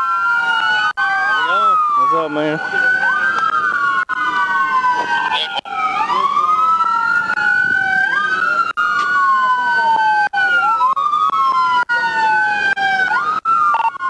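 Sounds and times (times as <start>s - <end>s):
police sirens wailing: 0.0s - 14.0s.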